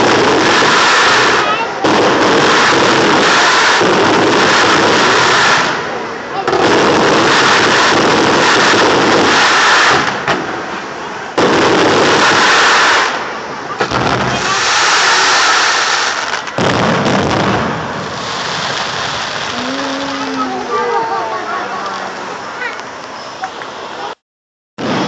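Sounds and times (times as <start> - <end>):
fireworks crackling and hissing: 0.0 - 24.2, 24.8 - 25.0.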